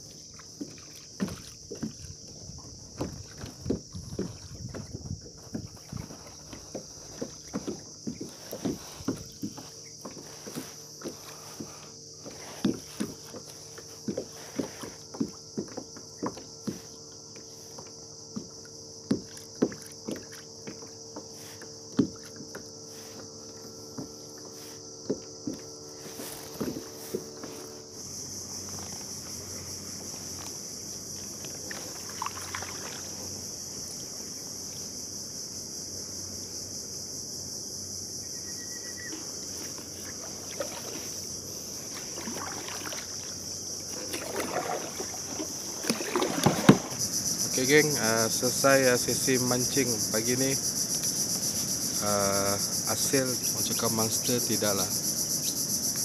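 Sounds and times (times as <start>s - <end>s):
paddle splashing water: 0.0s - 35.2s, 38.8s - 55.5s
insects droning: 0.0s - 56.0s.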